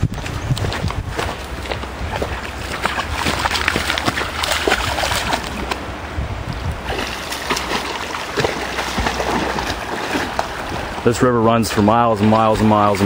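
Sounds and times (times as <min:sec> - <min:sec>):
river water rushing over rocks: 0:01.4 - 0:13.0.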